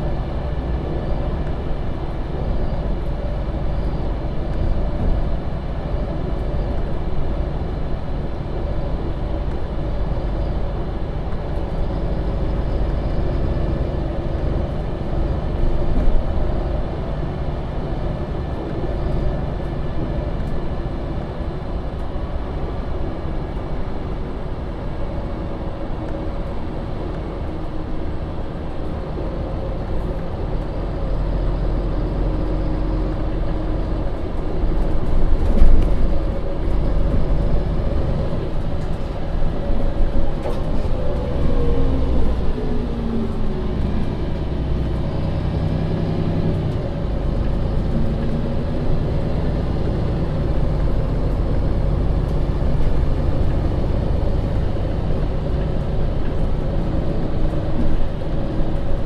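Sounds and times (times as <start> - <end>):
bus engine running: 0.0 - 59.0
engine whine: 0.0 - 59.0.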